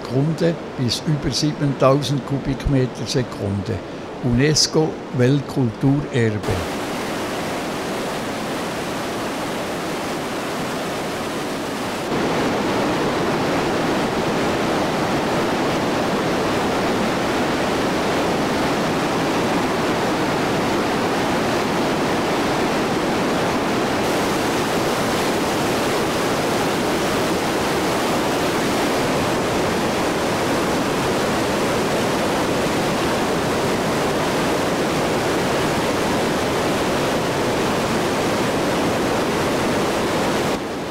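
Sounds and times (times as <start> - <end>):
waterfall rushing: 0.2 - 40.9.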